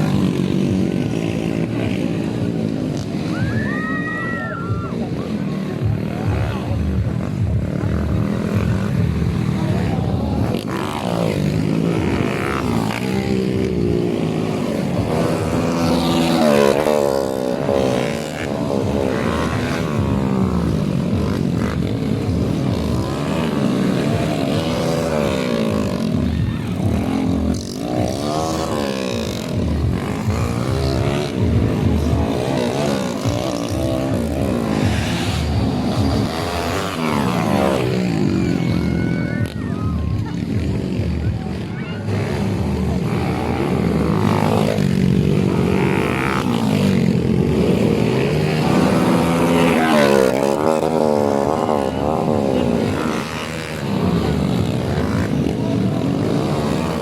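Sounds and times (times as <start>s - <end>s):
motocross motorcycle engines revving: 0.0s - 57.0s.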